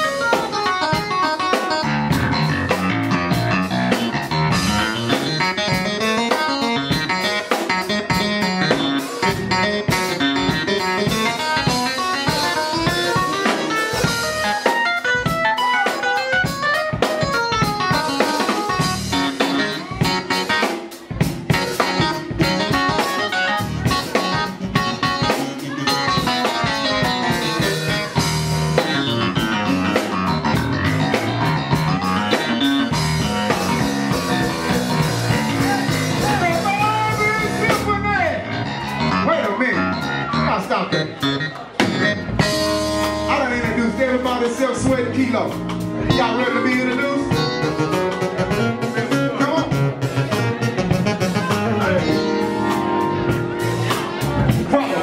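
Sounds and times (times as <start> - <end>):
drum kit: 0.0 - 55.0
electric bass guitar: 0.0 - 55.0
electronic keyboard: 0.0 - 55.0.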